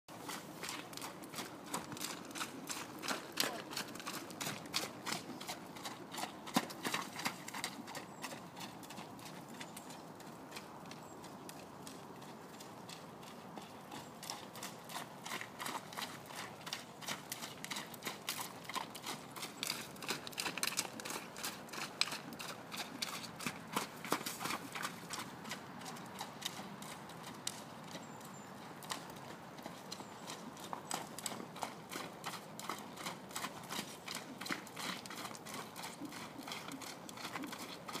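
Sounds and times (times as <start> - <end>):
horse hoofbeats on muddy grass: 0.1 - 38.0.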